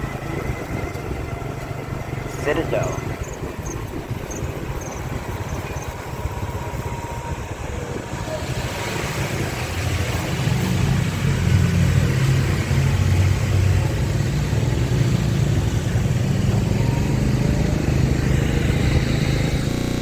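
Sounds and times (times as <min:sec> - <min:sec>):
motorbike engine running: 0:00.0 - 0:20.0
road and wind noise: 0:00.0 - 0:20.0
surrounding traffic: 0:00.0 - 0:20.0.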